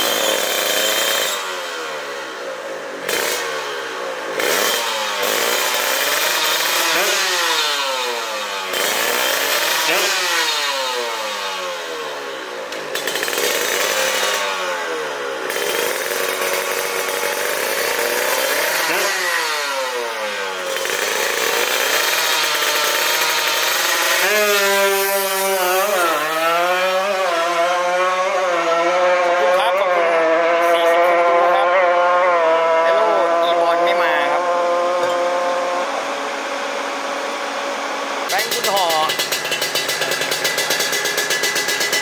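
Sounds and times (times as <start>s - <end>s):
two-stroke engine revving: 0.0s - 42.0s.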